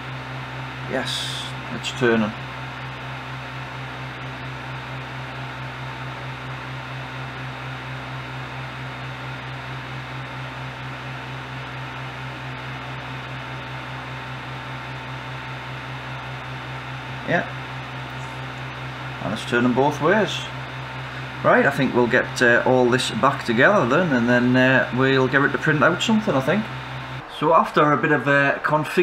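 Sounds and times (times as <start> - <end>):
printer humming: 0.0 - 29.0
stepper motor turning: 0.0 - 29.0.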